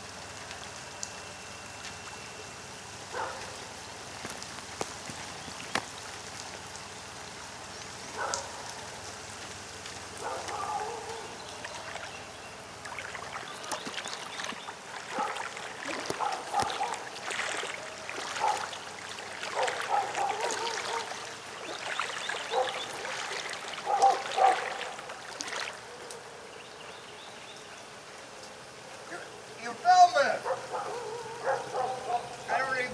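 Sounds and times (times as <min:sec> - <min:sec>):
floodwater splashing and trickling: 0:00.0 - 0:29.1.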